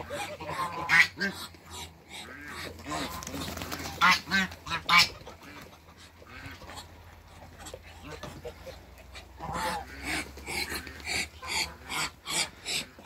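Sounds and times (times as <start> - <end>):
ducks calling: 0.0 - 13.0.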